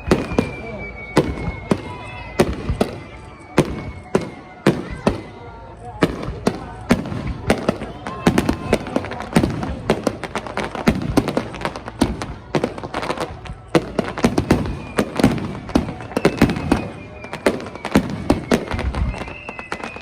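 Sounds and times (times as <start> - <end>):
fireworks bursting with bangs: 0.0 - 20.0
fireworks crackle: 0.0 - 20.0.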